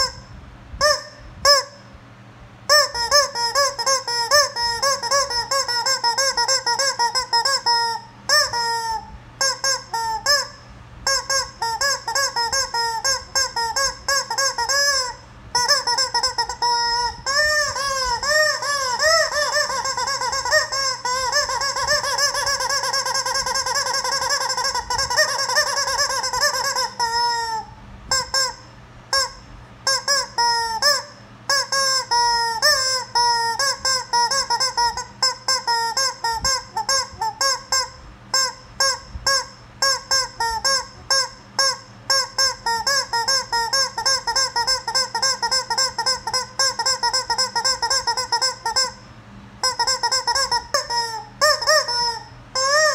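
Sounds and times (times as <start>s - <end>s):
rubber chicken toy squawking: 0.0s - 1.9s, 2.7s - 52.9s.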